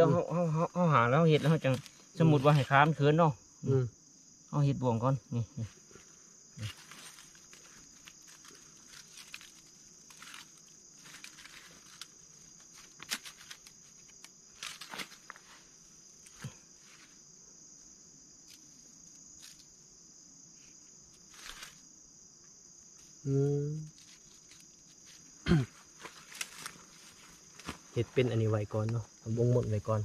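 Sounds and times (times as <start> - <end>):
high-pitched insect trilling: 0.0 - 30.0.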